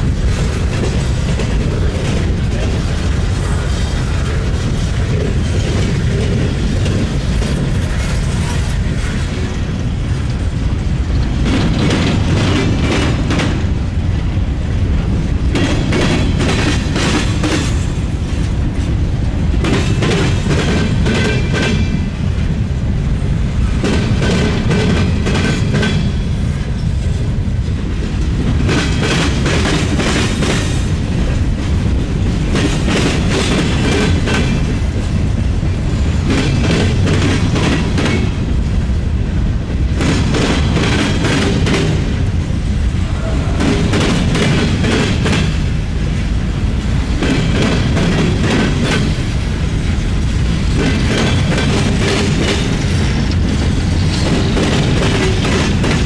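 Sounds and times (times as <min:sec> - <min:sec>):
train cars rumbling: 0:00.0 - 0:56.0.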